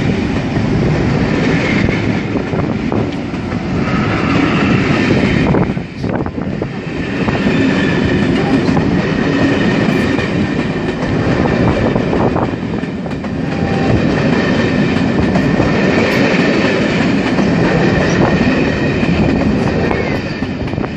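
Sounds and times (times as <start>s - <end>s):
train rumble: 0.0s - 20.9s
train wheels clicking over rail joints: 0.0s - 20.9s.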